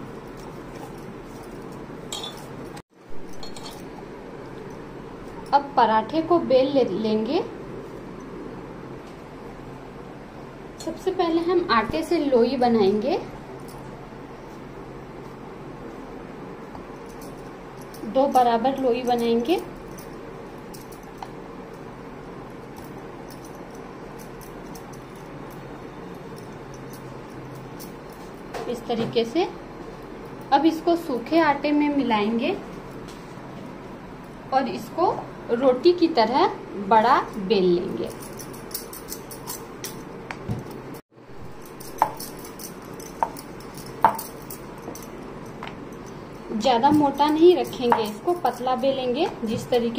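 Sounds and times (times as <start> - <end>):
room noise hum: 0.0 - 49.9
steady background noise: 0.0 - 49.9.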